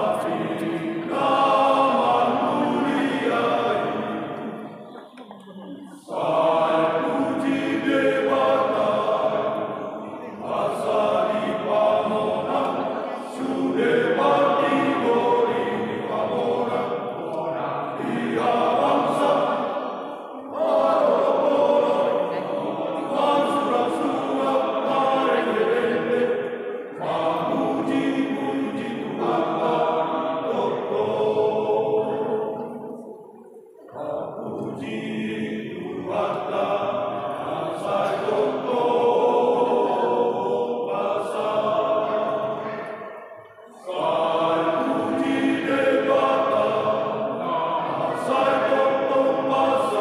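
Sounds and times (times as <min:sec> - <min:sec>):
men's choir singing a hymn: 0:00.0 - 0:05.0, 0:05.6 - 0:50.0.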